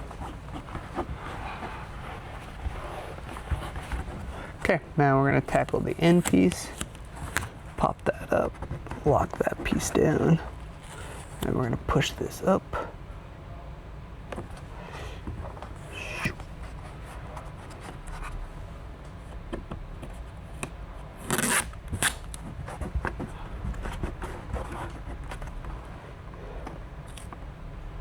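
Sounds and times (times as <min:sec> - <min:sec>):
vinyl rubbing and crinkling: 0:00.0 - 0:12.8, 0:14.3 - 0:27.8
vinyl rustle: 0:00.0 - 0:12.9, 0:14.2 - 0:28.0.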